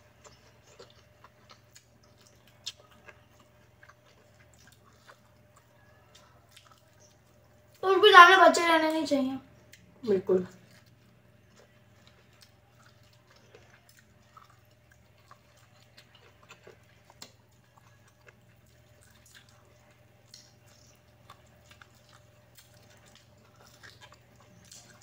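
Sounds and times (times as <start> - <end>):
chewing corn crunches: 0.0 - 7.8, 10.5 - 25.0
low steady hum: 0.0 - 25.0.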